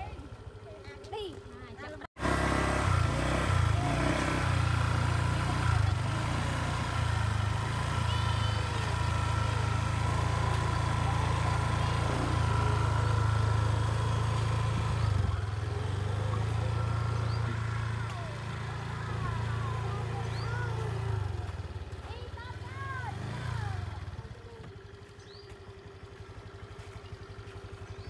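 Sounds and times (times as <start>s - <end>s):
motor scooter engine: 0.0s - 28.0s.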